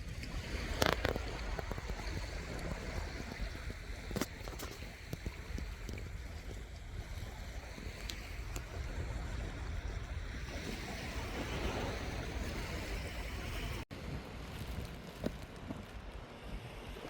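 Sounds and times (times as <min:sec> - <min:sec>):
sea waves: 0:00.0 - 0:17.0
wind rumbling on microphone: 0:00.0 - 0:17.0.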